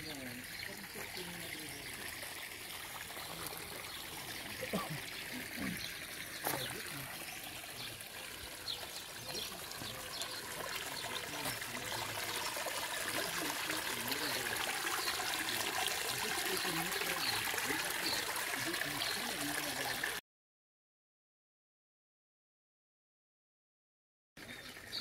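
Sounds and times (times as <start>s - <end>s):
water trickling and splashing: 0.0s - 20.2s, 24.4s - 25.0s.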